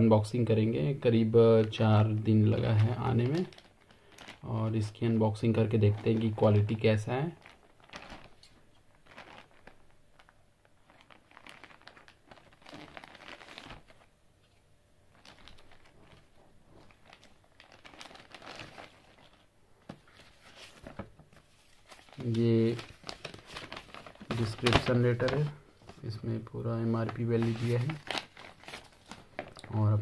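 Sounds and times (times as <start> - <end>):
plastic mailer crinkling: 1.5 - 14.1, 15.1 - 30.0.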